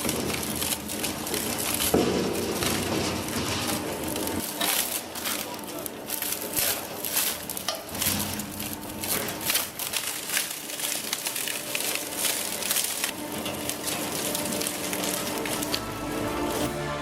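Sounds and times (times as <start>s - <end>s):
machine hum: 0.0s - 17.0s
shredder crunching material: 0.0s - 17.0s.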